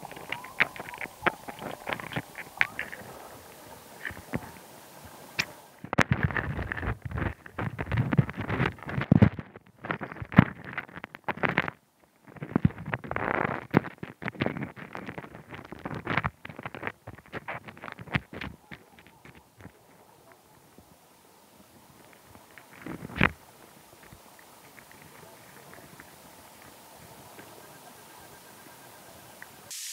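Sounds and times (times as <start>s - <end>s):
crab shells clicking underwater: 0.0s - 4.7s, 5.3s - 20.9s, 22.0s - 27.6s.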